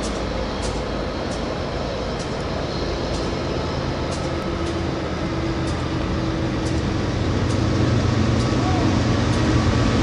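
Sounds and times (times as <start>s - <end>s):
distant diesel locomotive rumble: 0.0s - 10.0s.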